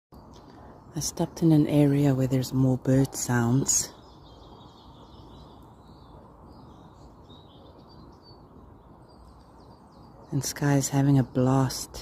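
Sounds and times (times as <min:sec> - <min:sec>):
birds chirping: 0:00.1 - 0:12.0
steady low background noise: 0:00.1 - 0:12.0.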